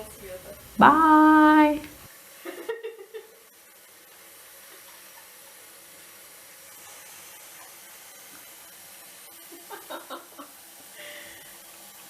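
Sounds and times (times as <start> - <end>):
water hissing in bathtub: 0.0 - 12.0.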